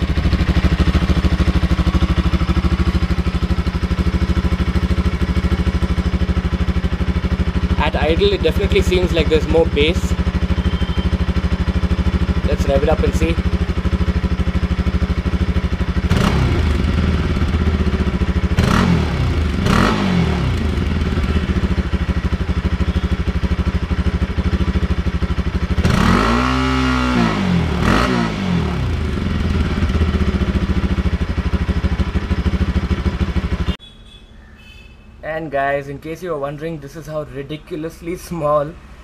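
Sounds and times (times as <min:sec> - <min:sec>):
motorcycle engine idling: 0:00.0 - 0:26.9, 0:27.6 - 0:34.2
motorcycle engine revving: 0:00.0 - 0:33.8.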